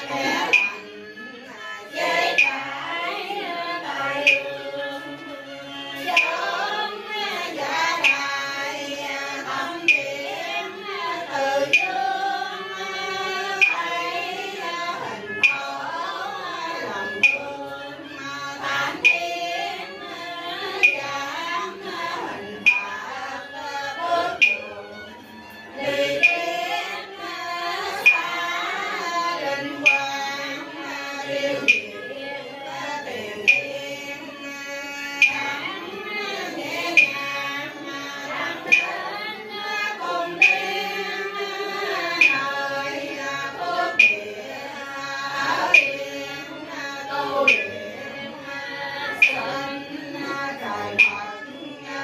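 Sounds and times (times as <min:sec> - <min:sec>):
sharp percussion stroke: 0:00.0 - 0:27.2, 0:27.8 - 0:46.5, 0:47.1 - 0:51.6
voices chanting prayers: 0:00.0 - 0:52.0.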